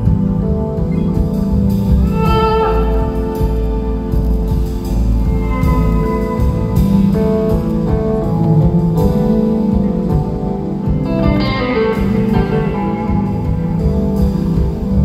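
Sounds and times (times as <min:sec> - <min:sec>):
bass: 0:00.0 - 0:15.0
drums: 0:00.0 - 0:15.0
electric guitar lines: 0:00.0 - 0:15.0
keyboards: 0:00.0 - 0:15.0.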